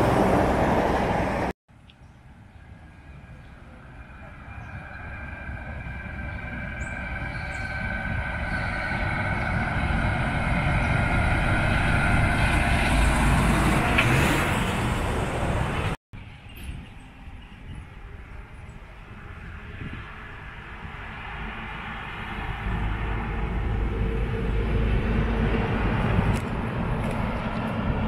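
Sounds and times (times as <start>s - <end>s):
heavy truck passing: 0.0s - 1.5s, 2.8s - 16.0s, 18.4s - 28.0s.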